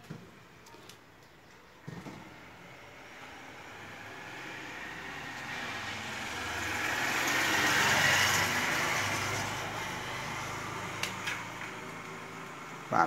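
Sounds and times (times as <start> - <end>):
road vehicle passing by: 1.8 - 13.0.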